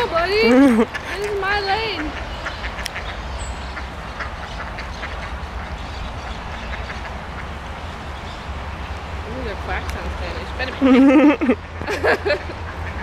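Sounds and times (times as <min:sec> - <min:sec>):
ducks quacking: 0:00.0 - 0:08.0, 0:09.7 - 0:13.0.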